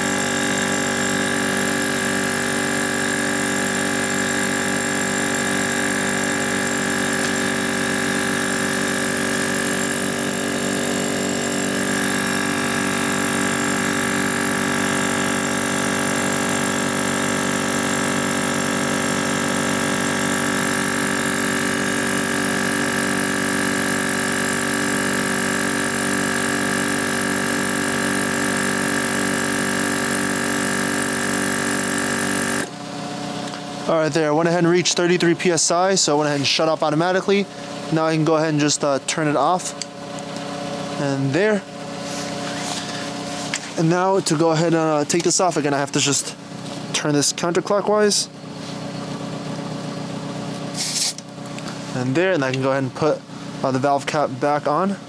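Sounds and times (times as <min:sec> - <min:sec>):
air compressor droning: 0:00.0 - 0:55.0.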